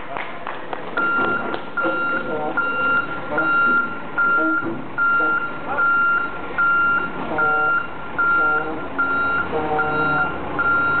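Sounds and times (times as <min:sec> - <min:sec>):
forklift reversing alarm beeping: 0:01.0 - 0:11.0.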